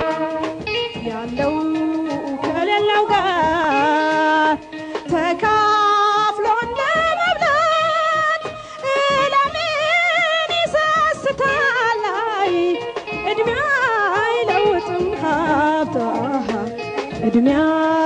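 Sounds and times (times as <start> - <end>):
instrumental backing: 0.0 - 18.0.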